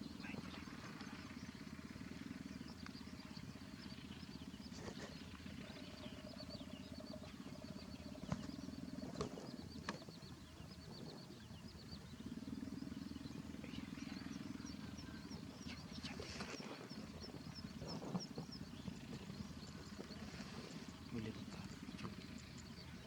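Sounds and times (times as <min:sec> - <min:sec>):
low motor drone: 0:00.0 - 0:23.0.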